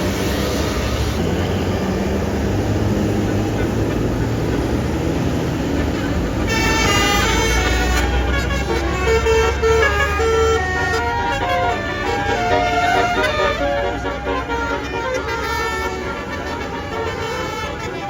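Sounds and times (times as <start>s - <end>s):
bus engine rumble: 0.0s - 18.0s
multi-tone bus horn tune: 0.0s - 18.0s
traffic noise: 0.0s - 18.0s.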